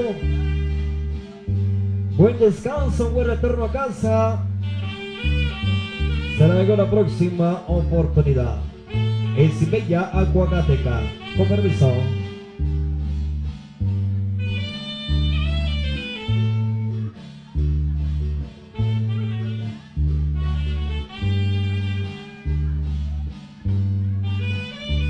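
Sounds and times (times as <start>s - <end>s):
bass line: 0.0s - 25.0s
guitar melody: 0.0s - 25.0s.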